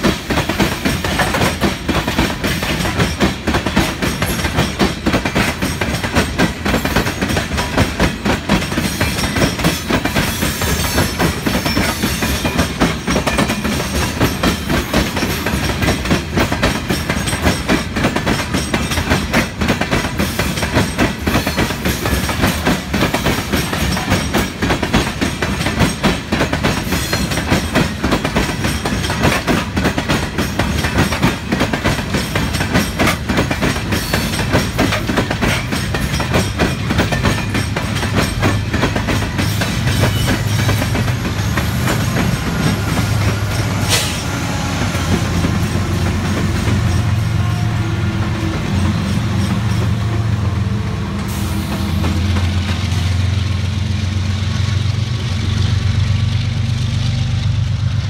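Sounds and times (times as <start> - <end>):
diesel locomotive drone: 0.0 - 58.0
train wheels clicking over rail joints: 0.0 - 58.0.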